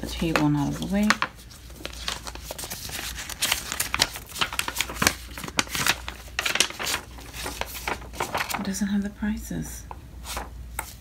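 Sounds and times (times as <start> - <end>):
papery rustles: 0.0 - 8.8, 10.2 - 11.0.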